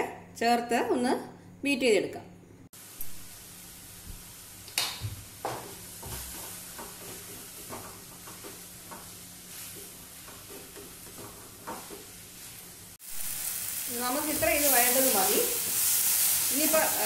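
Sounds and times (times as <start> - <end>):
vegetables sizzling in a pan: 2.8 - 17.0.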